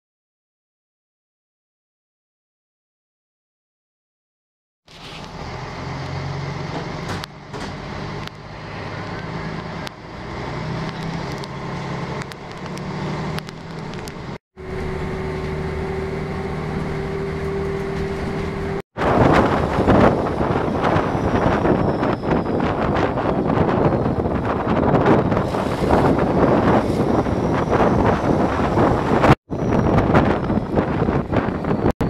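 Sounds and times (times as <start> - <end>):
bus diesel engine: 4.9 - 31.9
wind rushing at open window: 4.9 - 31.9.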